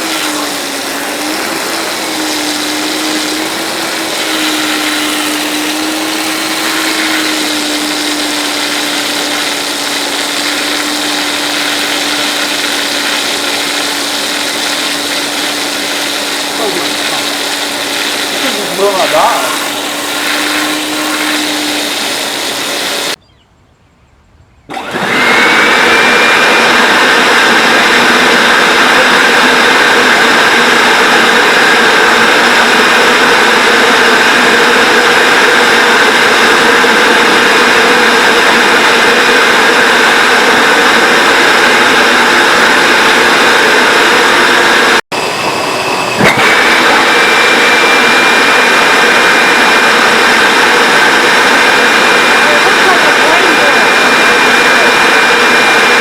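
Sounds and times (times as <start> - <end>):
vacuum cleaner motor running: 0.0 - 23.2, 24.7 - 56.0.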